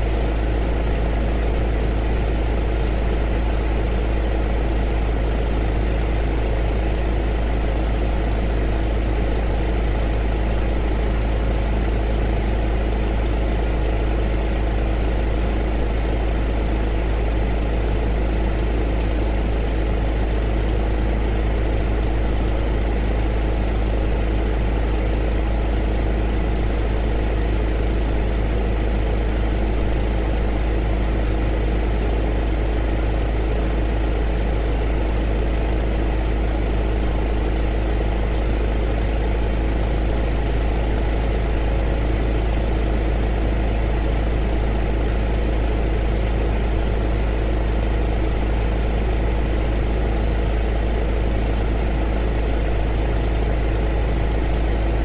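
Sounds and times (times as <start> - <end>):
deep constant hum: 0.0 - 55.0.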